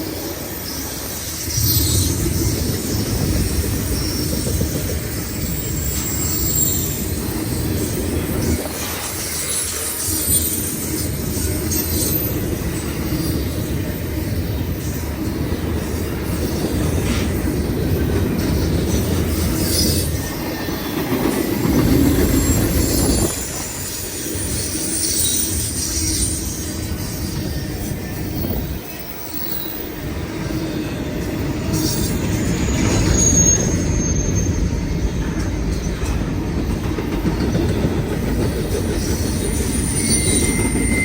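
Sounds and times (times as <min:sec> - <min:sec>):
freight train cars rumbling past: 0:00.0 - 0:41.0
train wheels squealing on rail: 0:00.0 - 0:41.0.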